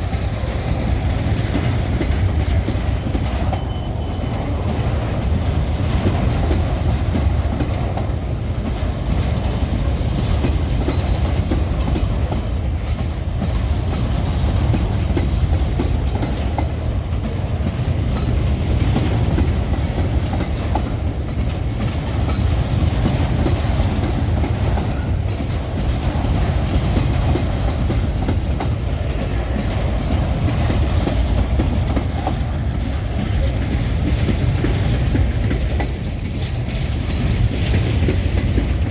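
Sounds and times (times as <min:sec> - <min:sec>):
low train rumble: 0:00.0 - 0:38.9
wheels clicking over rail joints: 0:00.0 - 0:38.9.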